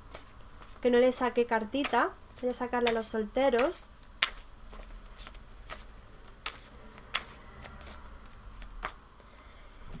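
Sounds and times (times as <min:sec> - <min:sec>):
cards being shuffled: 0:00.0 - 0:09.3.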